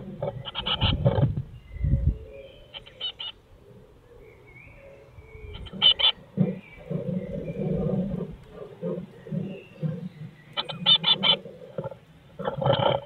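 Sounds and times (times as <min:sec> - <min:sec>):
bird chicks chirping: 0:00.0 - 0:13.0.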